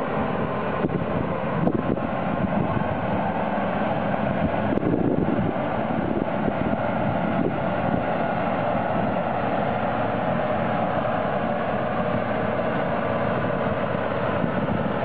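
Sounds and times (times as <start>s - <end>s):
diesel engine running: 0.0s - 15.0s
wind noise on microphone: 0.7s - 15.0s.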